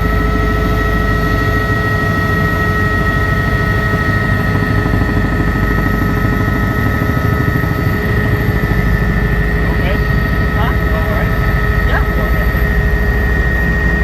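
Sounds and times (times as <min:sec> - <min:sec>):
helicopter rotor and turbine: 0:00.0 - 0:14.0
high turbine whine: 0:00.0 - 0:14.0.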